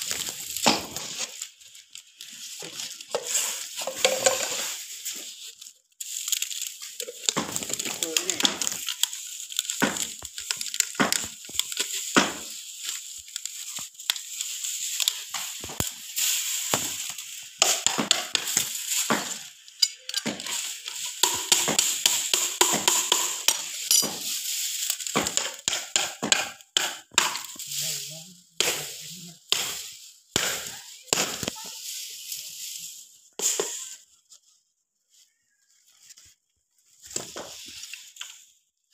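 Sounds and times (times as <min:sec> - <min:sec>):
dry grass stalks rustling: 0:00.0 - 0:38.9.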